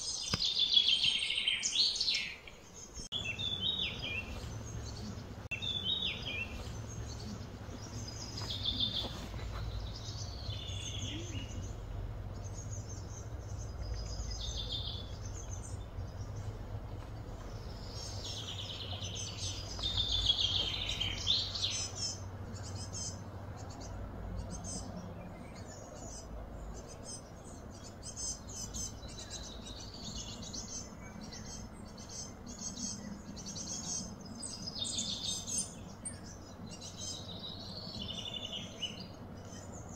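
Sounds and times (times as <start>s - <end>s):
birds chirping and calling: 0.0s - 39.9s
low background rumble: 2.7s - 39.9s.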